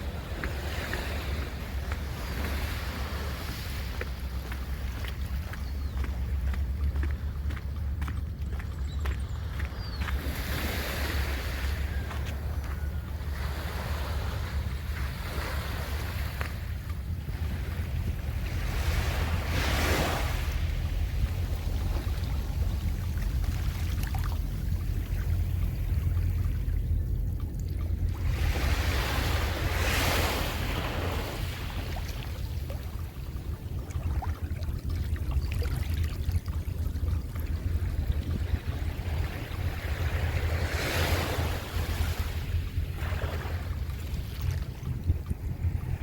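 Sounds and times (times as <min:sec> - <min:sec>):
waves breaking on beach: 0:00.0 - 0:26.8, 0:27.9 - 0:46.0
wind rumbling on microphone: 0:00.0 - 0:46.0.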